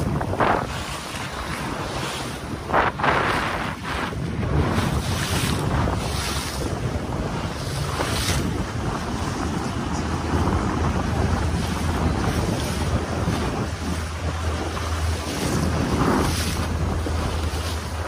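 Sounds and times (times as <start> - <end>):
boat motor hum: 0.0 - 18.0
water rushing around hull: 0.0 - 18.0
wind noise on microphone: 0.0 - 18.0.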